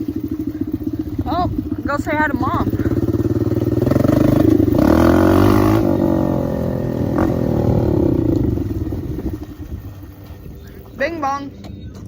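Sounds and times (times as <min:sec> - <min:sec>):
dirt bike engine slowing: 0:00.0 - 0:12.0.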